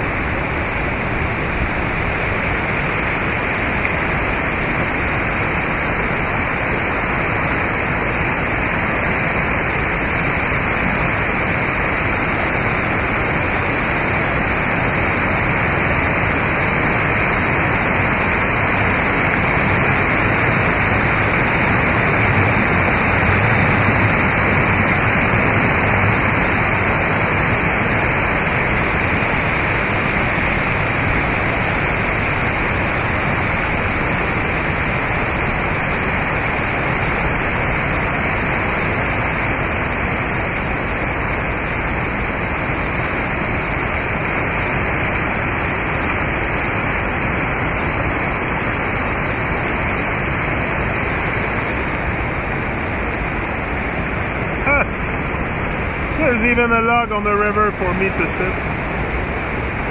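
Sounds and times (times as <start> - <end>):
rushing river water: 0.0 - 59.9.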